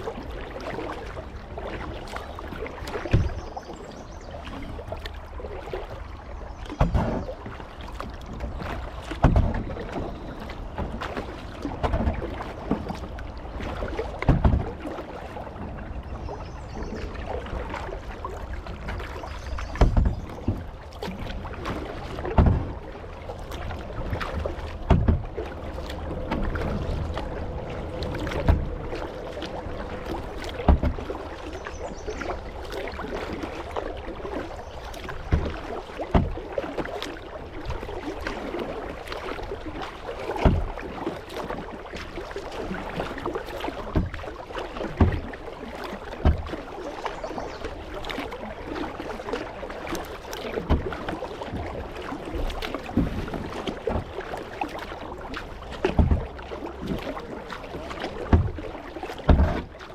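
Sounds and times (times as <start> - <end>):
moving water: 0.0 - 59.9
paddle splashing into water: 0.0 - 59.9.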